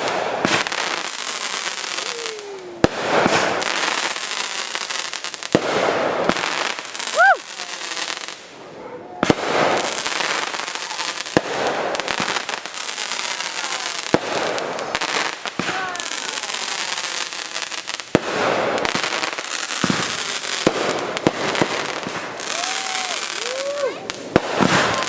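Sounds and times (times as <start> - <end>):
firework bangs: 0.0 - 25.0
fireworks crackling: 0.0 - 25.0.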